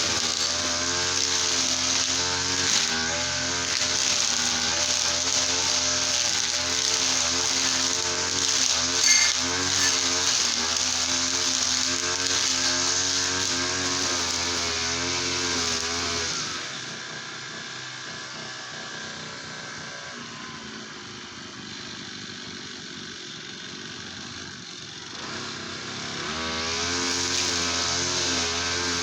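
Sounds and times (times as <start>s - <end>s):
brush cutter engine revving: 0.0s - 29.0s.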